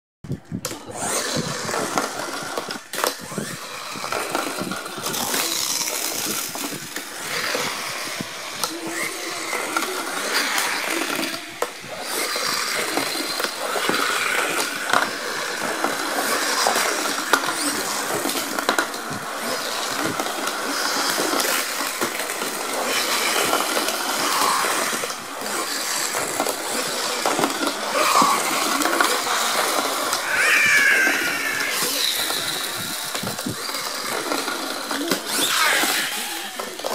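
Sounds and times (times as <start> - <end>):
small wheels rattling on plastic: 0.3 - 36.9
toy cars clacking together: 0.3 - 36.9
toy spring motors whirring: 0.3 - 36.9.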